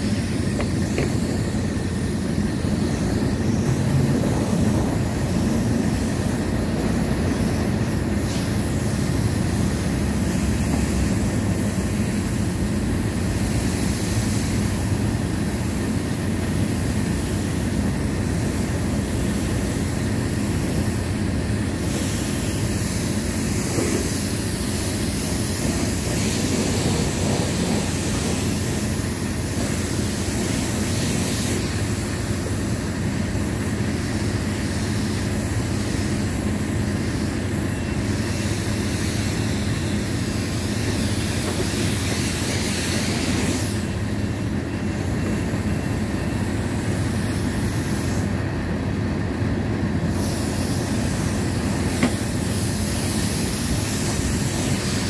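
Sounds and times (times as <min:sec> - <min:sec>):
pressure washer spraying water: 0:00.0 - 0:44.0, 0:50.1 - 0:55.0.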